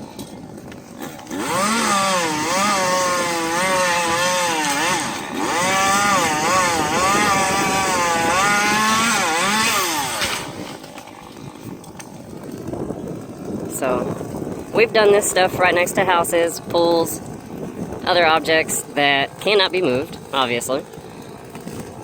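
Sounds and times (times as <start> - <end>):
chainsaw cutting at high revs: 0.0 - 22.0.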